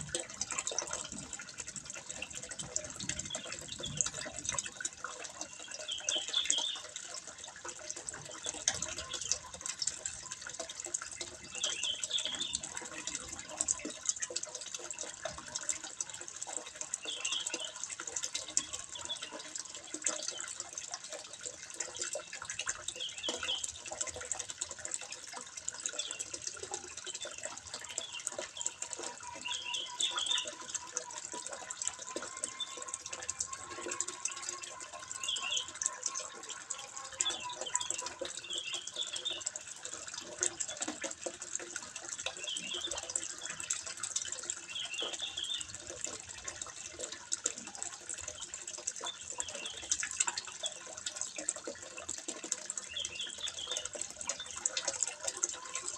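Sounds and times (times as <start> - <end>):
water trickling into a pond: 0.0 - 55.9.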